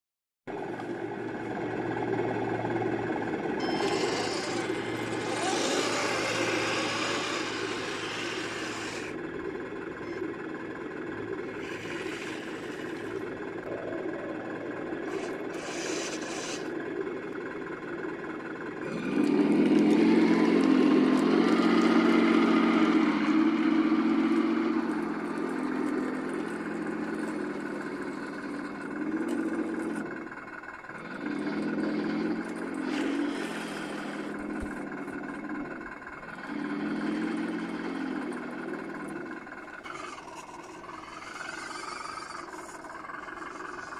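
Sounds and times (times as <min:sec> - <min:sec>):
simulated engine sound from speaker: 0:00.5 - 0:43.9.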